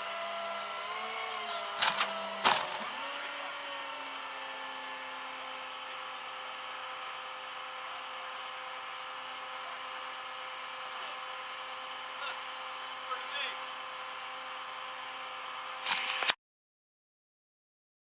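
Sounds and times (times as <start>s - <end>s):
steady mechanical motor whine: 0.0s - 16.4s.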